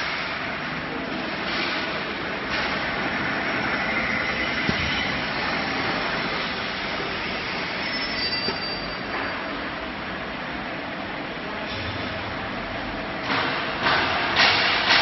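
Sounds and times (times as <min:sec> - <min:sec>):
frying line mechanical noise: 0:00.0 - 0:15.0.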